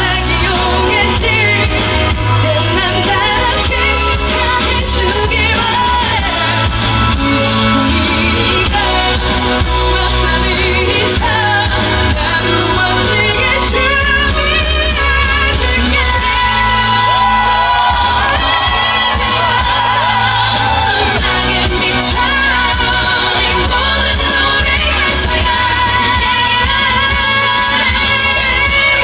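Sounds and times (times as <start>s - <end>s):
band backing track: 0.0s - 29.0s
woman singing with vibrato: 0.0s - 29.0s.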